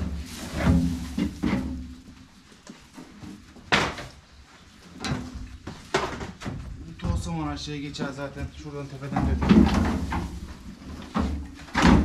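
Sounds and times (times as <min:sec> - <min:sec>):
knocks and scrapes of handling: 0:00.0 - 0:06.8, 0:08.0 - 0:12.0.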